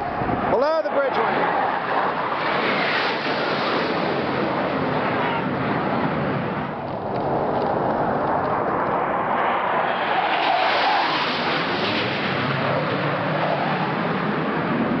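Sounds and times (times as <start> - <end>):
jet flying low past: 0.0 - 15.0.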